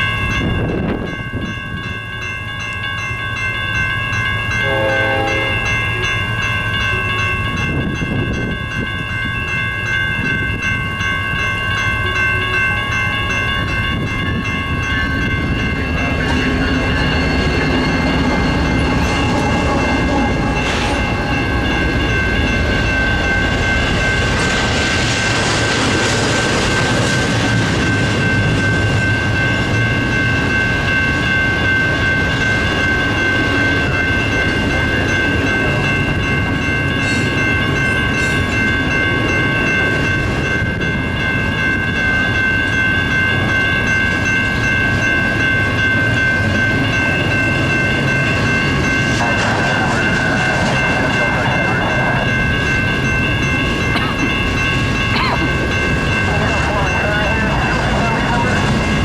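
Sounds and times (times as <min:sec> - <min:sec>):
steady ringing tones: 0:00.0 - 0:59.0.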